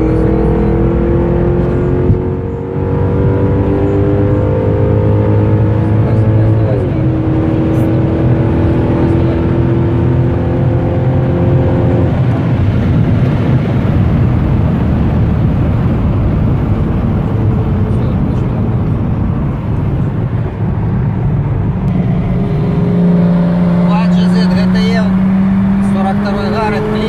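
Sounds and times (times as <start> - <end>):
car engine at speed: 0.0 - 27.0
road and wind noise: 0.0 - 27.0.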